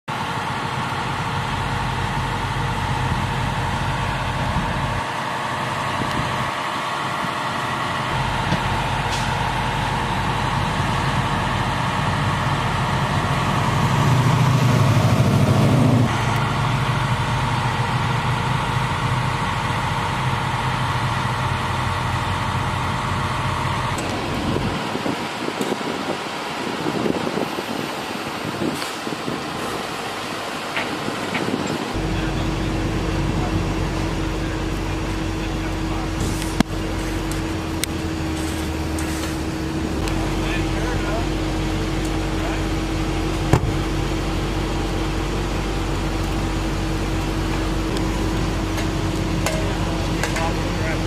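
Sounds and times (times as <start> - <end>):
truck engines idling: 0.1 - 51.0.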